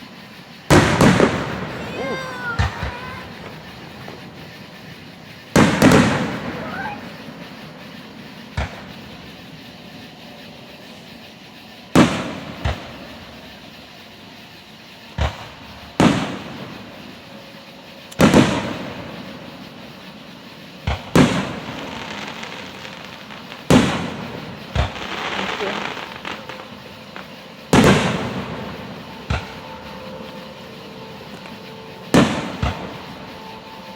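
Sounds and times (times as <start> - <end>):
firework shells bursting: 0.0 - 33.9
rumble of fireworks: 0.0 - 33.9.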